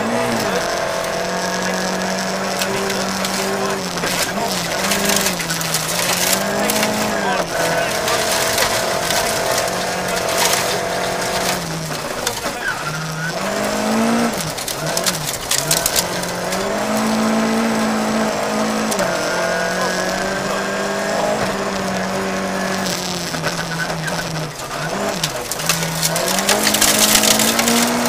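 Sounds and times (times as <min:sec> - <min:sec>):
car engine revving: 0:00.0 - 0:28.0
stones crackling against car underside: 0:00.0 - 0:28.0
tyres hissing on gravel: 0:00.0 - 0:28.0.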